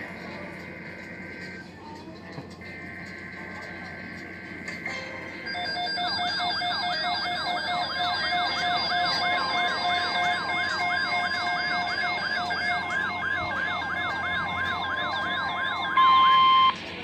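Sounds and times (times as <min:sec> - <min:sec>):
steady beeping tones: 0:00.0 - 0:17.0
steady alarm tone: 0:02.6 - 0:17.0
sweeping electronic siren: 0:02.7 - 0:17.0.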